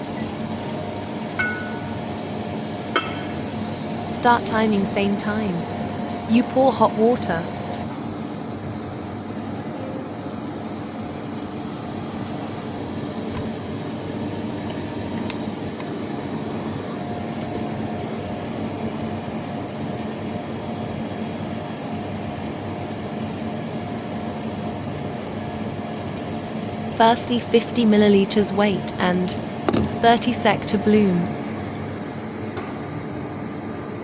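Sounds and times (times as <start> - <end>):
droning machine hum: 0.0 - 34.0.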